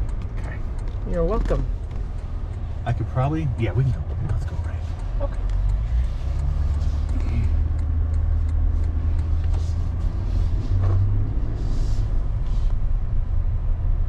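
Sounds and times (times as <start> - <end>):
engine and road rumble in cab: 0.0 - 14.0.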